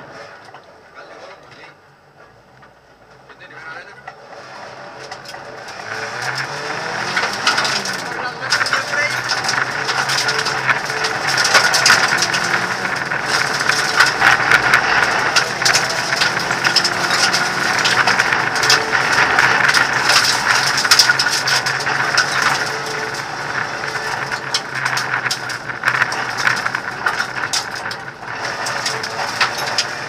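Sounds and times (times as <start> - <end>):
car engine under load: 0.0 - 30.0
interior rattling: 1.0 - 30.0.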